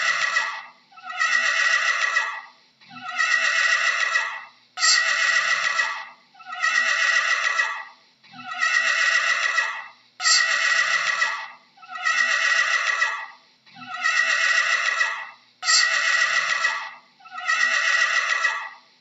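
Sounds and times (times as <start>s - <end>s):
horse whinnying: 0.0s - 2.4s, 3.0s - 18.8s.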